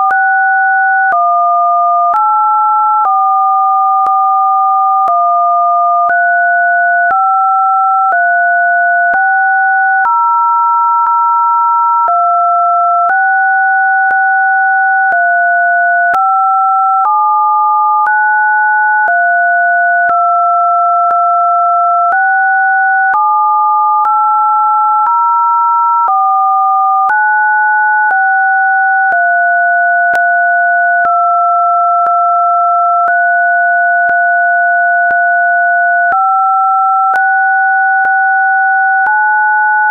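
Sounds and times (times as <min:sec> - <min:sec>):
sine-wave test tones: 0:00.0 - 0:39.9.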